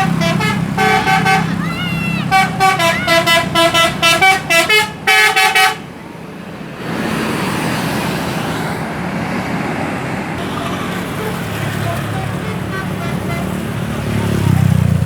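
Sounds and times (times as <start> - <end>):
passing vehicle engine and tyres: 0.0 - 15.0.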